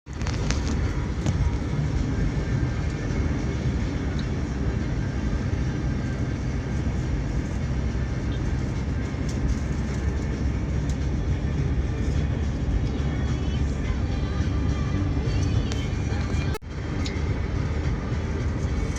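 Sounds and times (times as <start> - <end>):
car engine rumble: 0.0 - 18.9
road noise inside car: 0.1 - 18.9.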